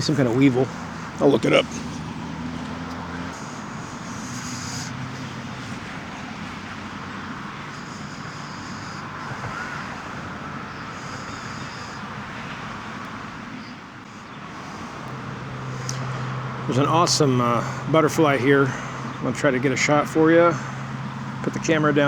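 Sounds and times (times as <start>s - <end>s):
distant road traffic: 0.0s - 22.0s.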